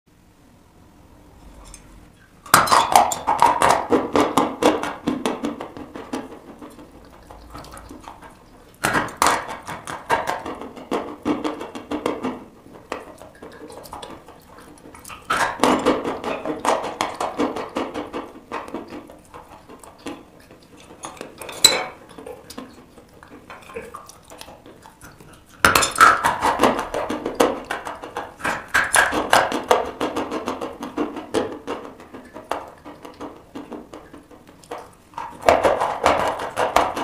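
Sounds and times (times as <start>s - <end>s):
gritty chewing: 1.4s - 37.0s.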